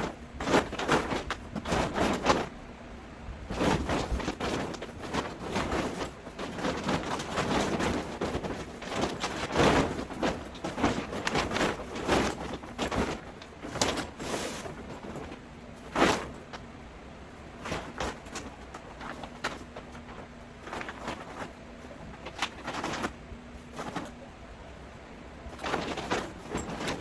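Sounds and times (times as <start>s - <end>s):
fabric rustling and scraping: 0.0s - 27.0s.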